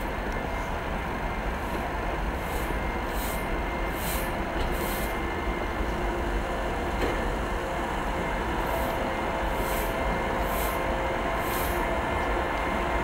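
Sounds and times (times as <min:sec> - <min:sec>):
electric locomotive humming: 0:00.0 - 0:13.0.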